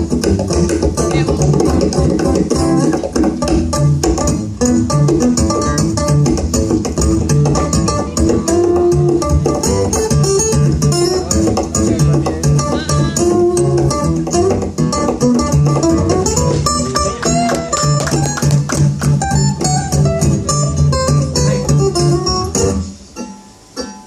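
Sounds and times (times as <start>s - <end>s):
pulsing bass guitar line: 0.0s - 23.0s
plucked acoustic guitar: 0.0s - 24.0s.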